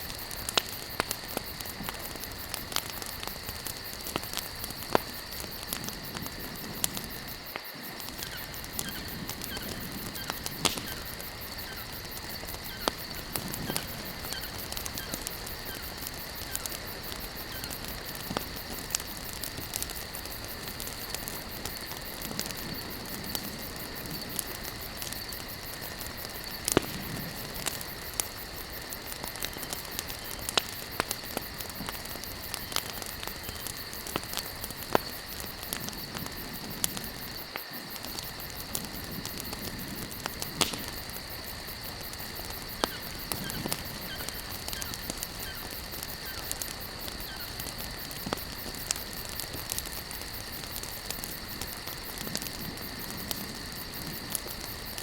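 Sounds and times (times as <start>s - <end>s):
campfire popping and crackling: 0.0s - 55.0s
fire hissing: 0.0s - 55.0s.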